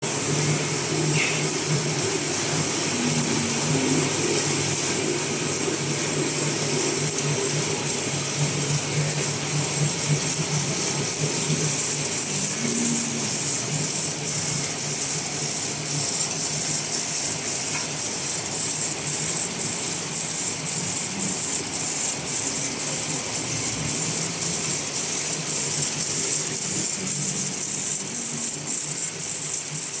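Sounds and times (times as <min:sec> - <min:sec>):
steady machine hum: 0:00.0 - 0:30.0
fast mechanical clicking: 0:05.6 - 0:30.0.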